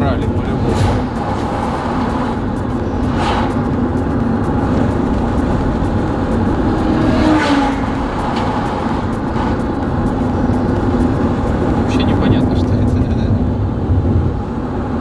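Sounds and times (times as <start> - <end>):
car road noise from inside: 0.0 - 15.0
tyre and engine drone: 0.0 - 15.0.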